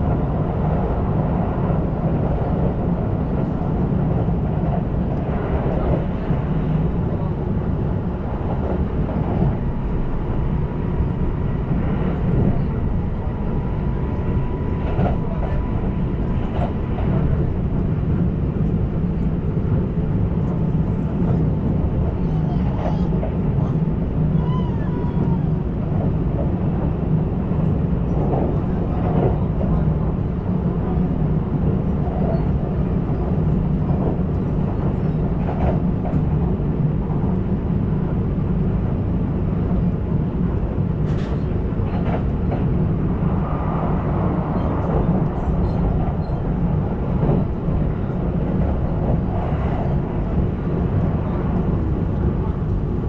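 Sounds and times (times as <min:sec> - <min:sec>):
train wheels rumbling: 0:00.0 - 0:53.0.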